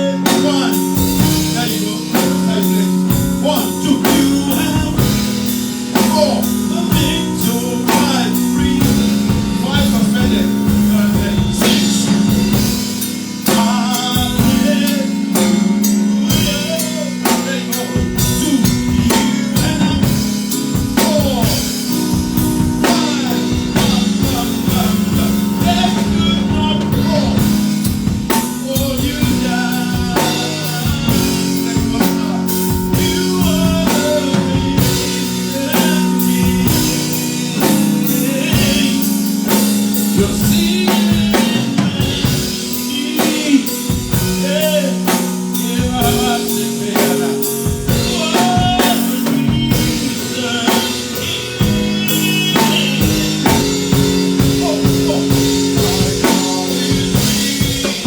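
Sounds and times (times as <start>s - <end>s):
drum kit cymbal and drum hits: 0.0s - 58.0s
live band playing worship song: 0.0s - 58.0s.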